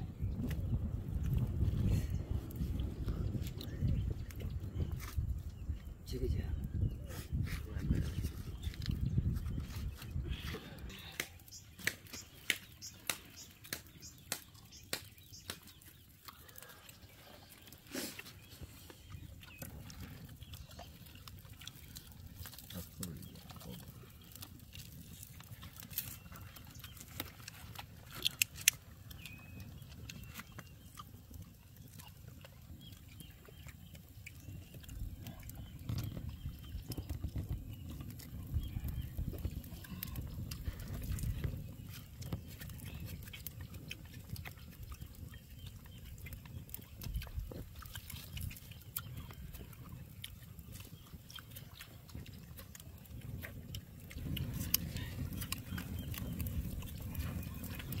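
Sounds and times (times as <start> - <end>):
wood fire crackling: 0.0 - 58.0
people chewing: 7.0 - 58.0.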